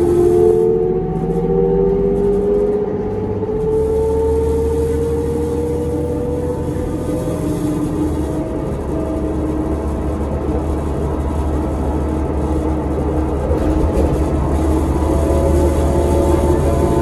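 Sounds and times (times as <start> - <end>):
diesel engine rumbling: 0.0 - 17.0
drivetrain whine rising in pitch: 0.0 - 17.0.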